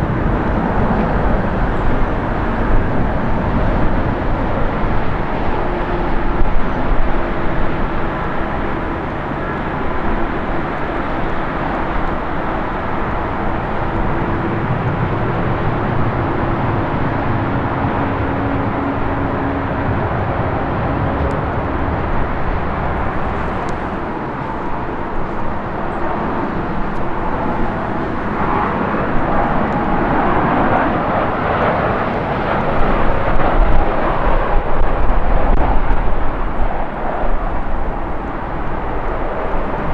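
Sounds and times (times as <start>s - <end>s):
jet airliner engine rushing: 0.0s - 39.9s.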